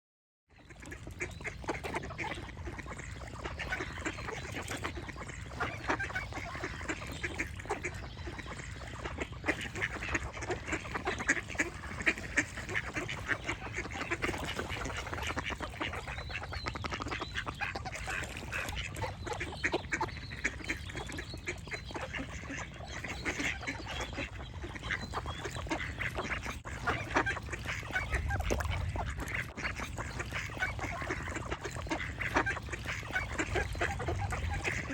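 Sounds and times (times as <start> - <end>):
birds chirping: 0.6 - 29.1, 29.7 - 34.9
ducks quacking: 0.6 - 34.9.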